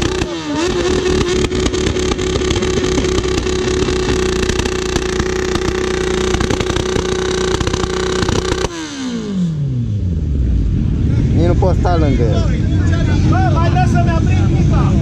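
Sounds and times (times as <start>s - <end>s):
engine revs falling: 0.0s - 15.0s
motorcycle engine running: 0.0s - 15.0s.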